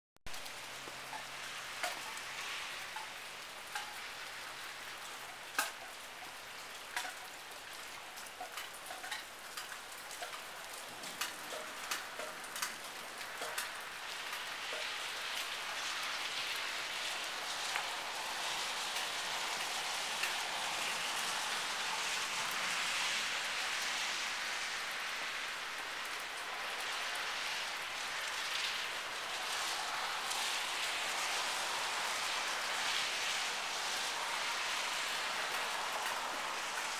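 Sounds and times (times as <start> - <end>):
rain falling: 0.3 - 36.9.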